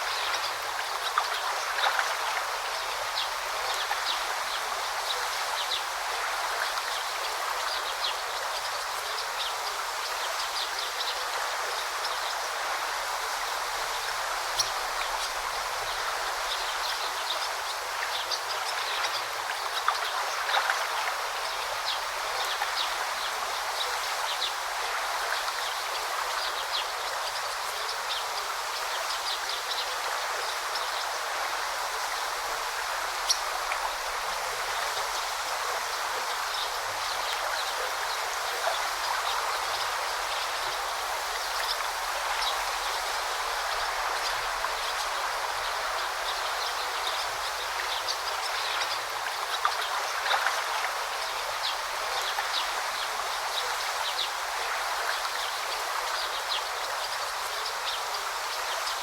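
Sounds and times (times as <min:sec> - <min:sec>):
brook flowing: 0:00.0 - 0:59.0
water splashes and trickles: 0:00.0 - 0:59.0.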